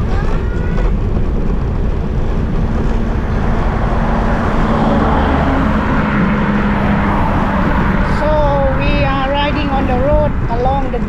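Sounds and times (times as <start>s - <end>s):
scooter and car engines: 0.0s - 11.0s
steady engine hum: 0.0s - 11.0s.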